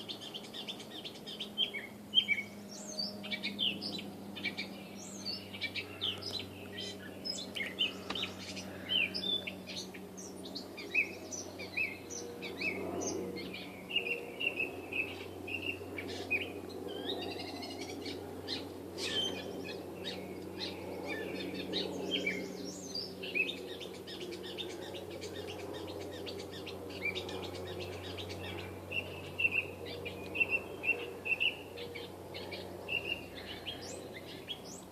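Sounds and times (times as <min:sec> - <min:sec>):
catbird singing: 0:00.0 - 0:34.9.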